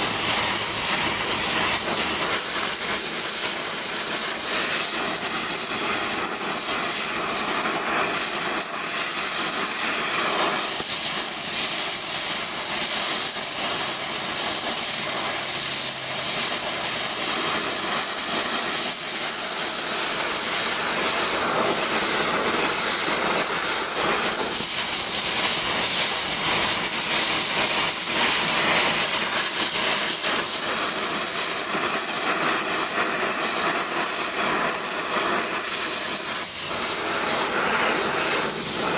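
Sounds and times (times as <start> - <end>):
torch flame hissing: 0.0 - 38.9.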